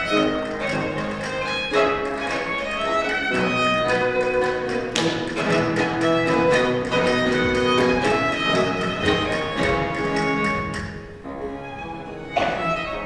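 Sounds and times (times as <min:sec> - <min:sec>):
baroque violin melody: 0:00.0 - 0:13.0
harpsichord: 0:00.0 - 0:13.0
theorbo: 0:00.0 - 0:13.0.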